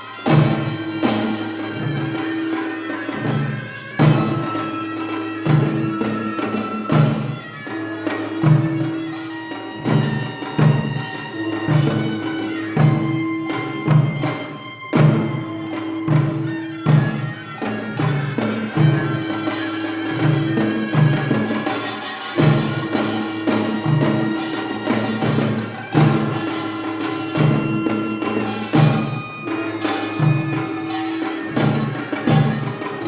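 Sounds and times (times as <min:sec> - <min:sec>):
double-reed wind instrument: 0:00.0 - 0:33.0
drums beating: 0:00.1 - 0:33.0.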